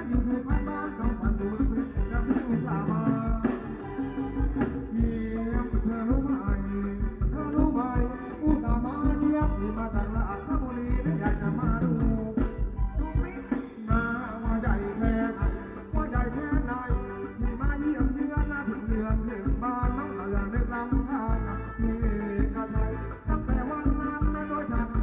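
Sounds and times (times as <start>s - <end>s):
driving drum beat: 0.0s - 25.0s
person singing: 0.0s - 25.0s.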